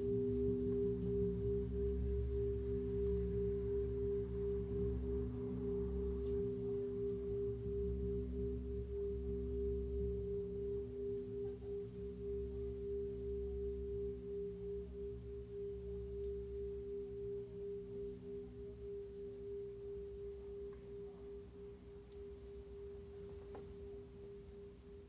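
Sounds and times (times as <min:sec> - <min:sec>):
sustained humming drone: 0:00.0 - 0:25.0.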